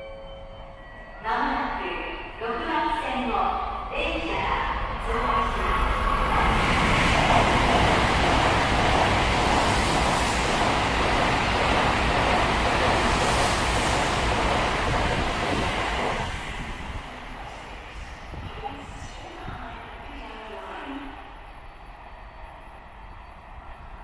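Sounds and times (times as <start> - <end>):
train passing at speed: 0.8 - 24.0.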